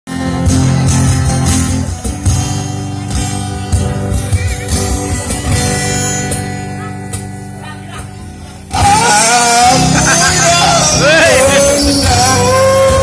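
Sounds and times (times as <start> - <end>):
guitar music: 0.1 - 13.0.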